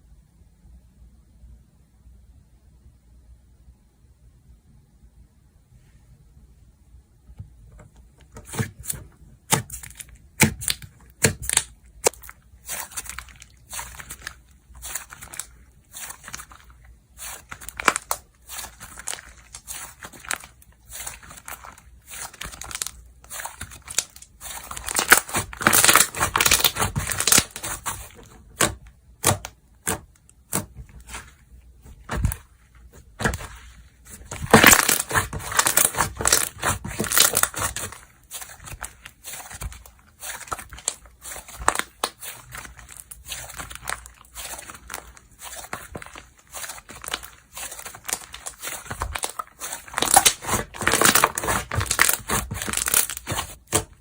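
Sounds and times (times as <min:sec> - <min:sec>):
slime popping and crackling: 0:08.5 - 0:54.0.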